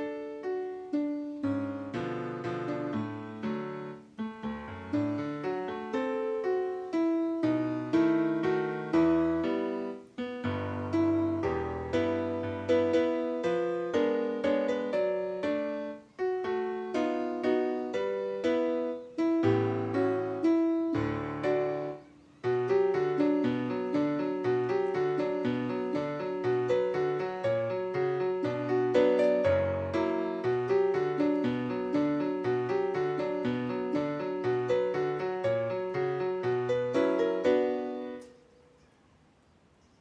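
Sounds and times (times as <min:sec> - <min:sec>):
solo piano melody: 0:00.0 - 0:38.9.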